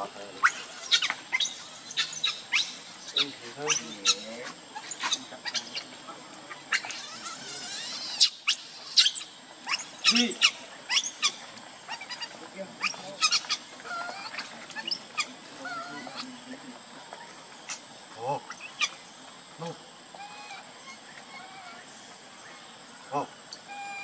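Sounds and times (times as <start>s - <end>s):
monkeys squeaking and chirping: 0.0s - 22.7s, 23.6s - 24.0s.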